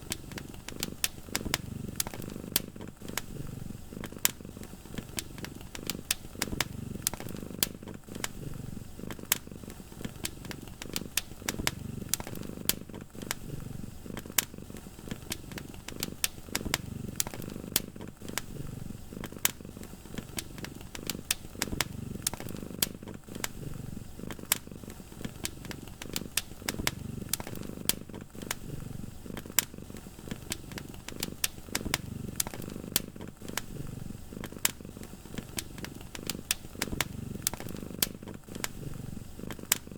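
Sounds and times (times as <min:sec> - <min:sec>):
cat purring: 0:00.0 - 0:39.9
wood fire crackling and popping: 0:00.0 - 0:39.9.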